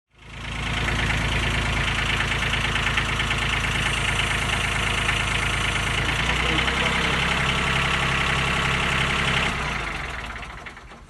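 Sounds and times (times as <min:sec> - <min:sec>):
tractor diesel engine idling: 0:00.2 - 0:11.0.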